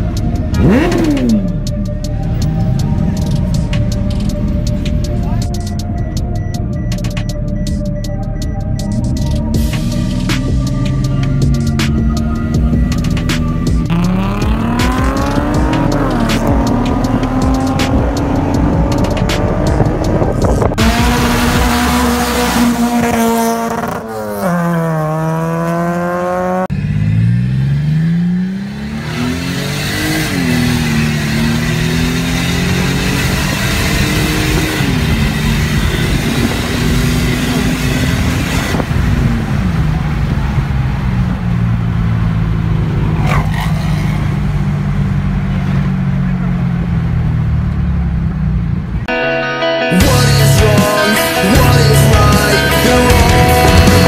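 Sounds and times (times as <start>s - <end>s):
car engine revving: 0.0s - 49.1s, 50.0s - 54.0s.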